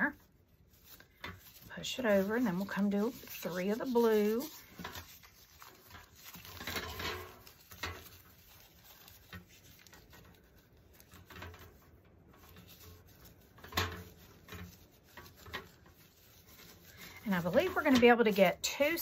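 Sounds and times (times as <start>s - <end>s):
plastic strips crinkling and rustling: 0.0s - 19.0s.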